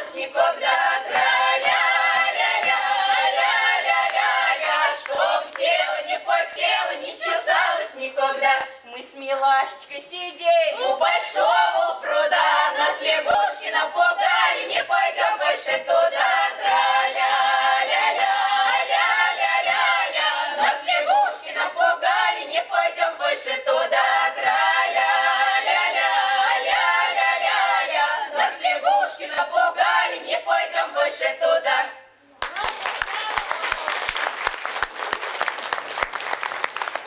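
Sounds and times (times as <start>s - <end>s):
folk choir singing a cappella: 0.0s - 32.2s.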